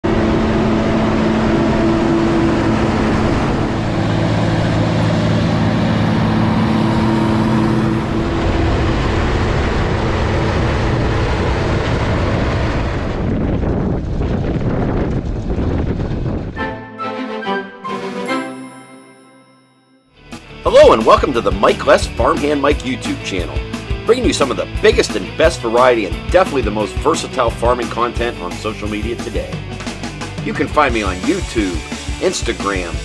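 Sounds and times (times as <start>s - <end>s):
tractor diesel engine droning: 0.0s - 14.4s, 20.2s - 33.0s.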